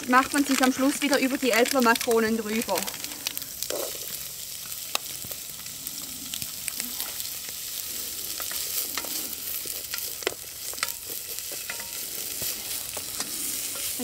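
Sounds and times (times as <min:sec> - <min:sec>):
bacon and onions sizzling in oil: 0:00.0 - 0:14.0
wooden spoon stirring pot: 0:00.0 - 0:14.0.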